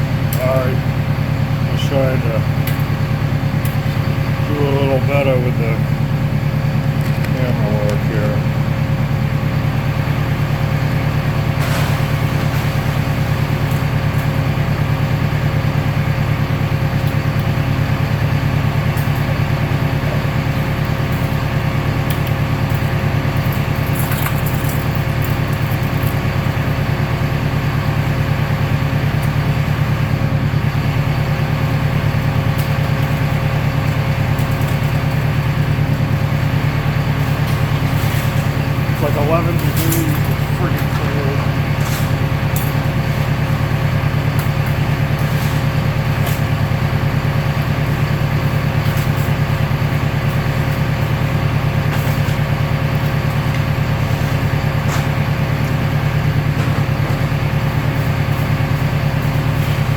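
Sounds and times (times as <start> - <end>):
baler machinery humming and whining: 0.0 - 24.0, 24.6 - 59.9.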